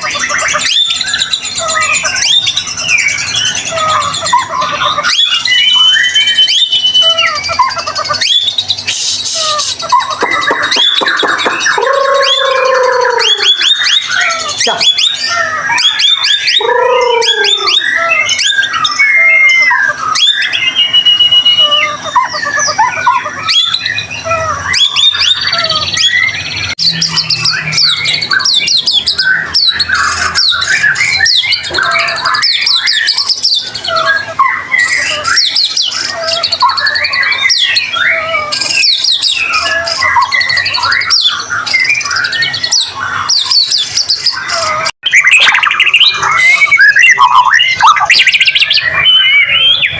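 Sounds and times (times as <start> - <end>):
songbird singing whistles and trills: 0.0 - 49.9.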